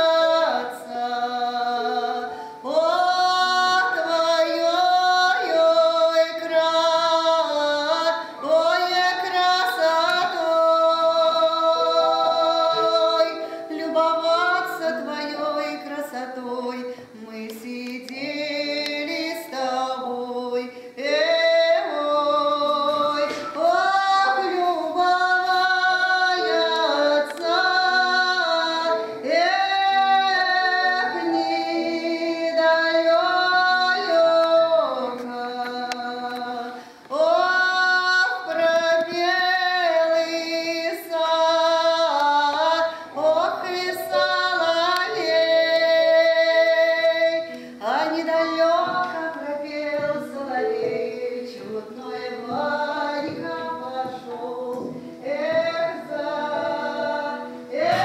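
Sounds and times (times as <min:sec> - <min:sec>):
woman singing slow melody: 0:00.0 - 0:58.0.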